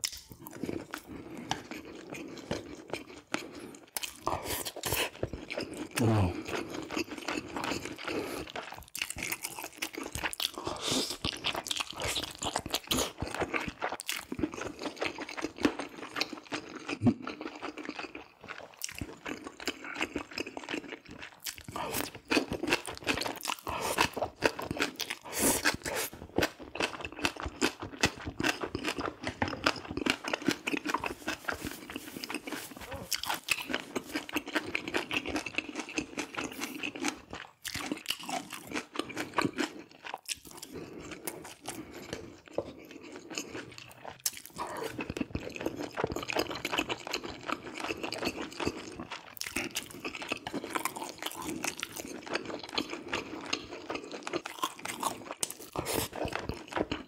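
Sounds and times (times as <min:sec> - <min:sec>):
person chewing and crunching: 0:00.0 - 0:57.0.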